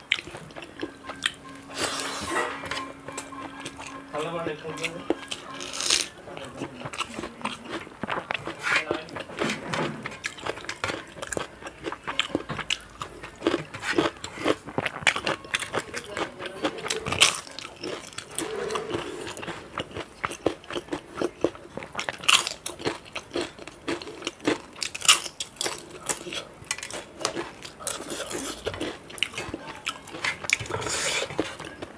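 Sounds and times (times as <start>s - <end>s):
chewing and crunching crisp food: 0.0s - 31.9s.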